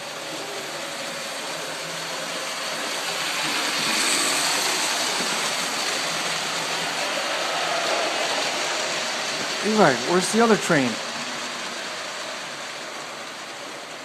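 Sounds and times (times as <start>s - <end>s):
model train rattling on track: 0.0s - 14.0s.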